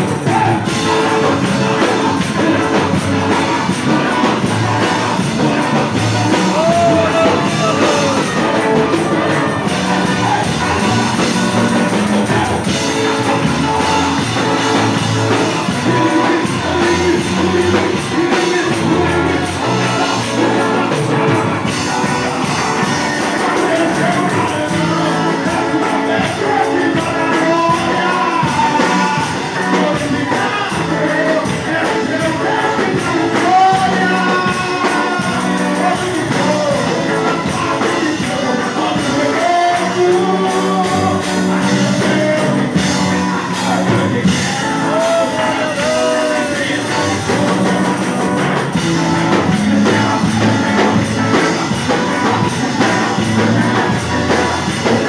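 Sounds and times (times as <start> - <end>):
gospel worship music with band: 0.0 - 55.0
person singing: 0.0 - 55.0.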